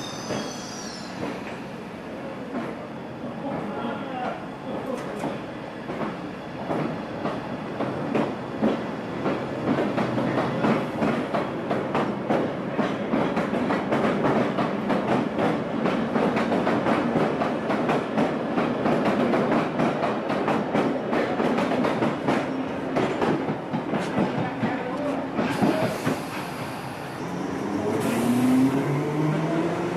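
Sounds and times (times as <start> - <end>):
train rumble: 0.0 - 29.9.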